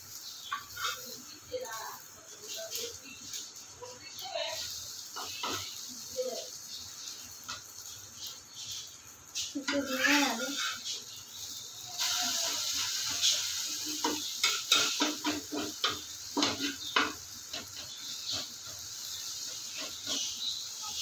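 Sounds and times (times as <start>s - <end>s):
omelette sizzling in oil: 0.0s - 21.0s
spatula scraping and tapping pan: 0.1s - 3.6s, 4.2s - 21.0s.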